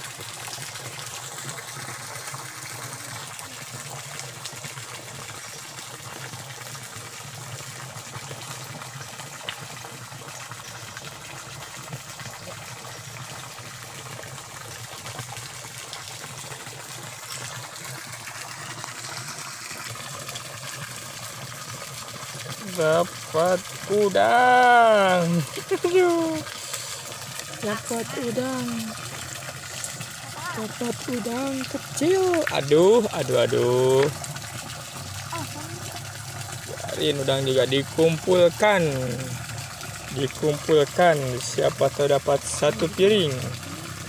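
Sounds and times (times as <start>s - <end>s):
small waterfall: 0.0s - 44.0s
stream water flowing: 0.0s - 44.0s.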